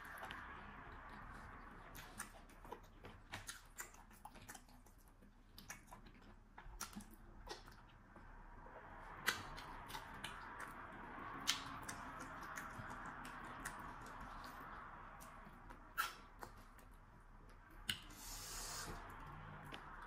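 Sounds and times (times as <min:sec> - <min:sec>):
wet chewing and lip smacks: 0:00.0 - 0:20.0.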